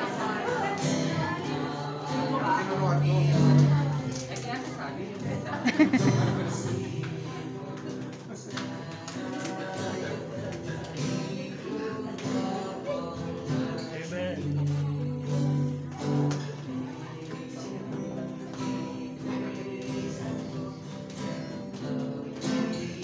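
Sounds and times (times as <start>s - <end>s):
acoustic guitar strumming: 0.0s - 23.0s
person singing worship song: 0.0s - 23.0s.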